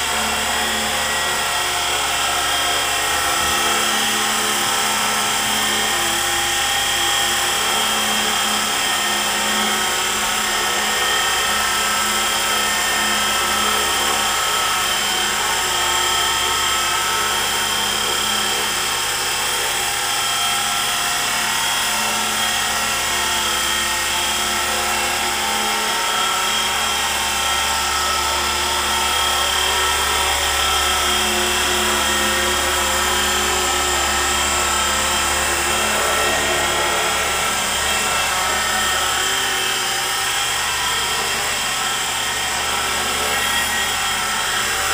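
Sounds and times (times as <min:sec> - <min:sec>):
helicopter rotors whirring: 0:00.0 - 0:44.9
rc helicopter motor whine: 0:00.0 - 0:44.9.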